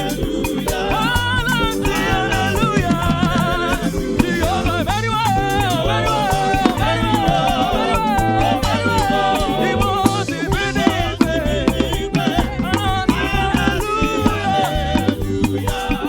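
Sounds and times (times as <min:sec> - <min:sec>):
bass line: 0:00.0 - 0:16.0
drums: 0:00.0 - 0:16.0
gospel band playing: 0:00.0 - 0:16.0
people singing: 0:00.0 - 0:16.0.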